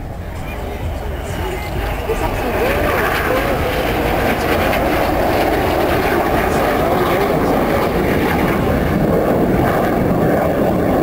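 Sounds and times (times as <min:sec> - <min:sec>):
jet engines rushing: 0:00.0 - 0:11.0.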